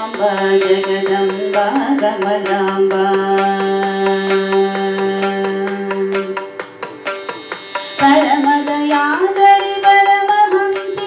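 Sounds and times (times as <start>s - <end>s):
woman singing: 0.0s - 6.6s, 7.9s - 11.0s
drum beat: 0.0s - 11.0s.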